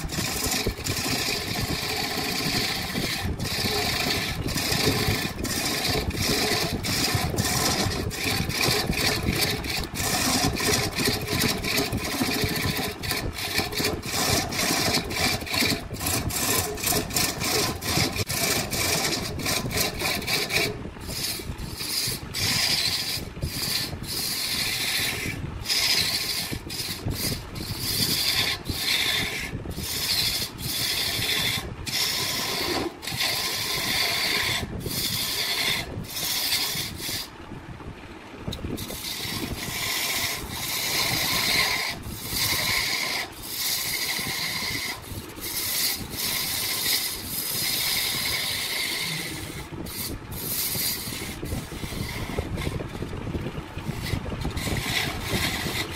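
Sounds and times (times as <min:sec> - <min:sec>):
rasp scraping wood: 0:00.0 - 0:37.4, 0:38.5 - 0:55.9.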